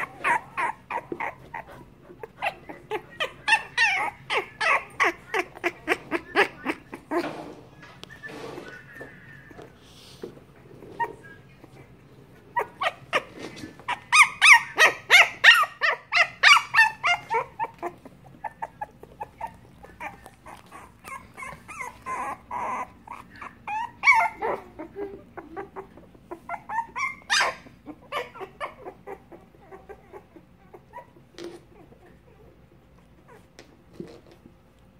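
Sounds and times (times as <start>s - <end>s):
puppies crying: 0.0s - 7.4s, 10.7s - 33.7s.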